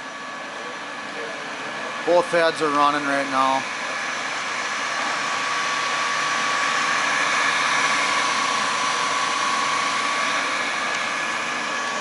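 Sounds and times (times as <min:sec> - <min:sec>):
grinder motor whirring: 0:00.0 - 0:12.0.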